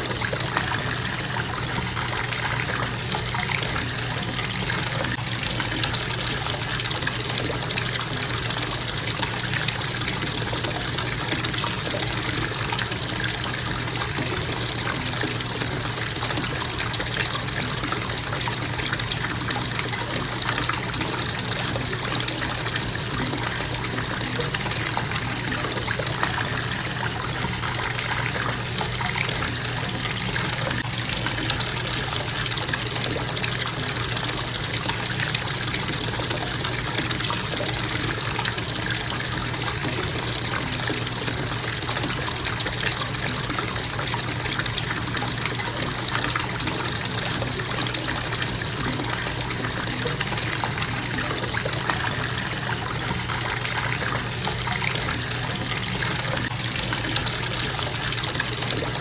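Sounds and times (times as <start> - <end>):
water splashing into bathtub: 0.0 - 59.0.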